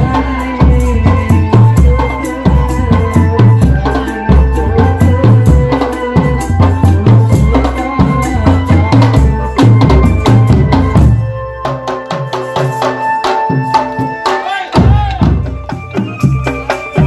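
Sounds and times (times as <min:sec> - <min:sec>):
heavy bass drum beats: 0:00.0 - 0:11.4, 0:13.6 - 0:17.0
held melody: 0:00.0 - 0:17.0
rattling percussion: 0:00.0 - 0:17.0.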